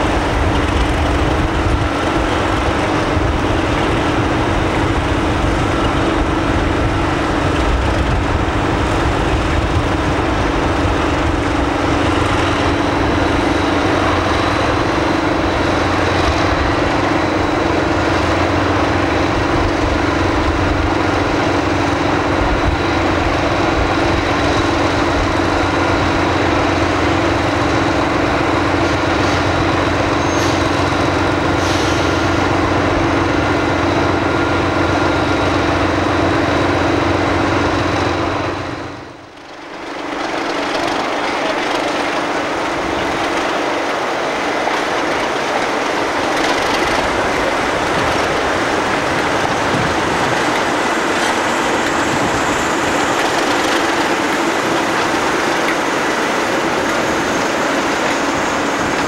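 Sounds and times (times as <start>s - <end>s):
diesel locomotive engine hum: 0.0s - 59.0s
train rolling over track: 0.0s - 59.0s.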